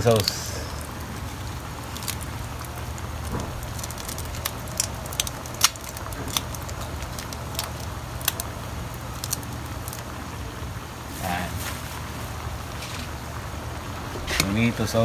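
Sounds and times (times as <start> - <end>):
crackles and pops: 0.0 - 15.0
steady low hum: 0.0 - 15.0
stew boiling in a pan: 0.0 - 15.0.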